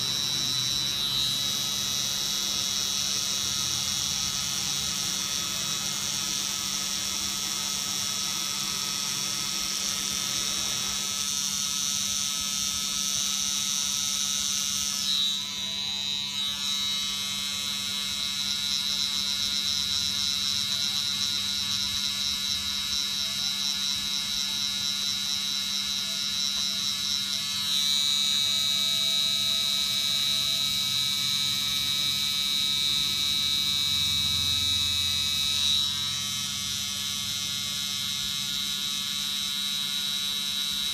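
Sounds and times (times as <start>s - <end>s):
tattoo pen buzzing: 0.0s - 40.9s.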